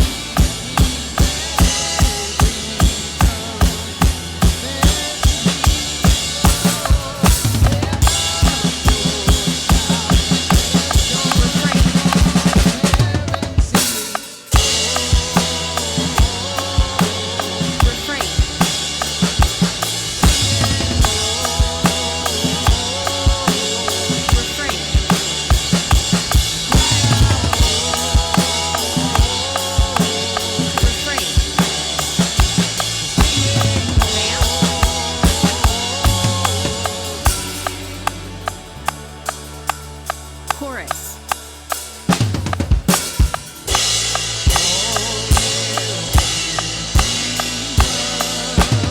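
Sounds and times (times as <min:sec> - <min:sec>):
drum kit playing a beat: 0:00.0 - 0:48.9
worship band music: 0:00.0 - 0:48.9.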